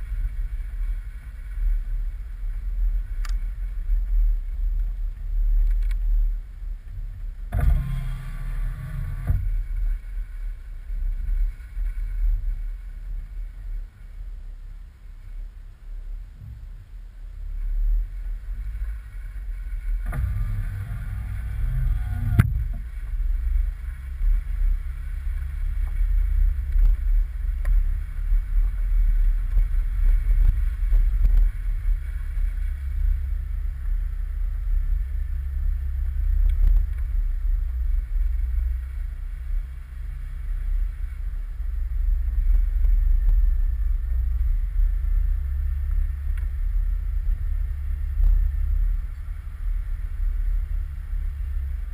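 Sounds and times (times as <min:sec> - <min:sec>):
engine and drivetrain rumble: 0:00.0 - 0:51.9.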